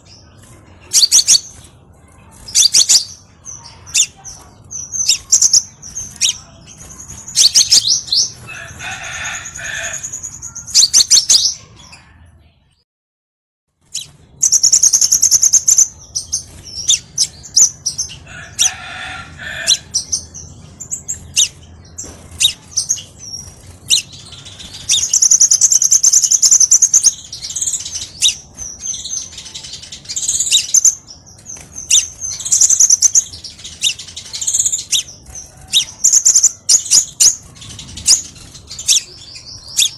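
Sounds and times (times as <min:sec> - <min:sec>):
bird chirps and trills: 0:00.0 - 0:12.3, 0:13.8 - 0:39.9.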